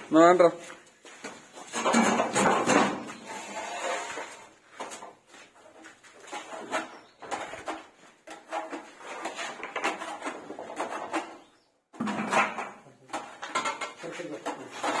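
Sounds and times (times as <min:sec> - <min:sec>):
tools scraping on a wall: 0:01.5 - 0:15.0
wooden ladder being shifted: 0:01.6 - 0:15.0.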